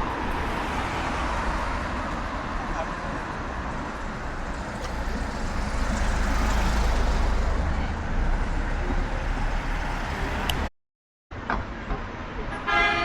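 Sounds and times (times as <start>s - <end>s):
street traffic noise: 0.0s - 10.7s, 11.3s - 13.0s.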